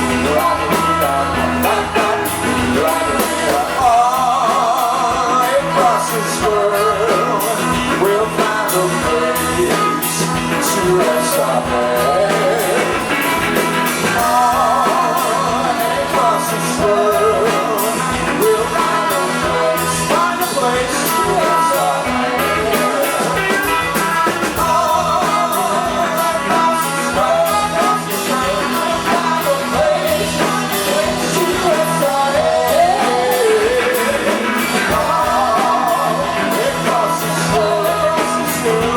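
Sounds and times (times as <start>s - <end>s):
electric guitars: 0.0s - 38.9s
person singing: 0.0s - 38.9s
rhythm section: 0.0s - 38.9s.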